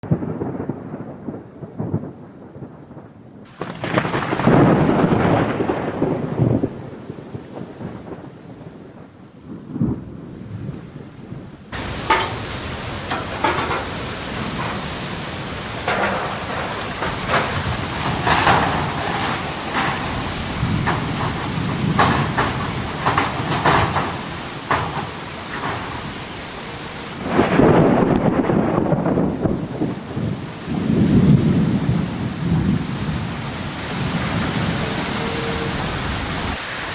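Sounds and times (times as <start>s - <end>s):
loud thunderclap: 0.0s - 36.9s
rain falling: 0.0s - 36.9s
thunder rumbling: 0.0s - 36.9s.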